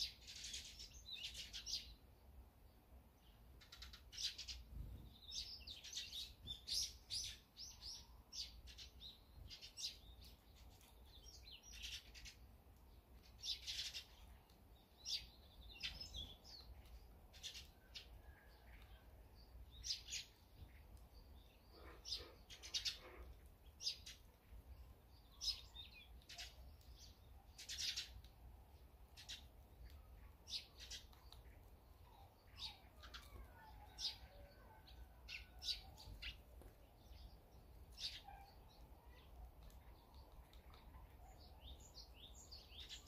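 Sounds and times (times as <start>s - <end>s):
sparrows chirping: 0.0s - 43.0s.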